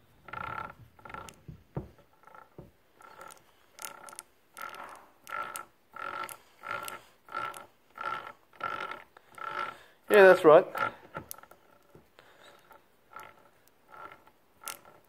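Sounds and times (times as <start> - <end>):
gears whirring: 0.0 - 15.0.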